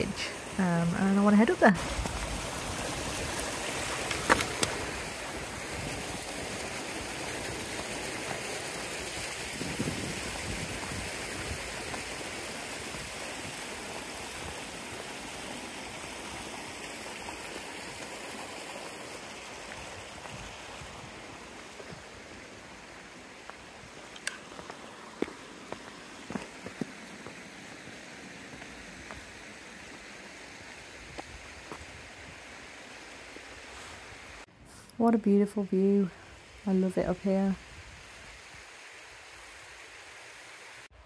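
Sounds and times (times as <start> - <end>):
stream running over stones: 0.0 - 41.0.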